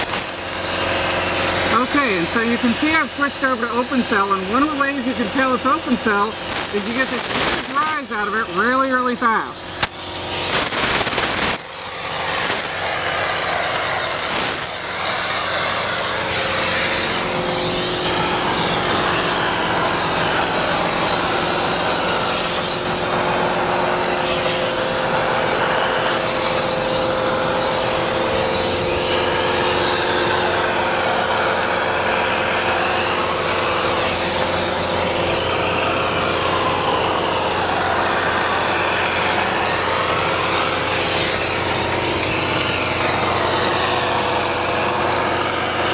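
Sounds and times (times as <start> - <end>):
machine hum: 0.0 - 45.9
spray foam gun hissing: 0.0 - 45.9.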